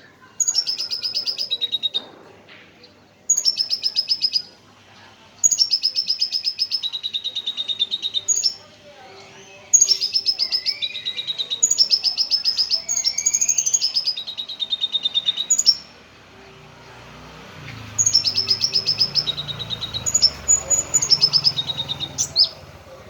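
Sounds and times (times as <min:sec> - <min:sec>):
lovebird chirping: 0:00.3 - 0:02.1, 0:03.3 - 0:04.6, 0:05.4 - 0:16.0, 0:17.7 - 0:23.0.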